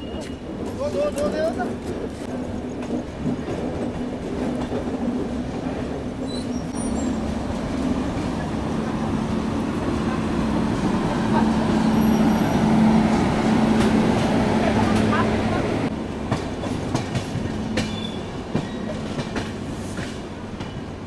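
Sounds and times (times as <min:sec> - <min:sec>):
rumble of train wheels on track: 0:00.0 - 0:21.0.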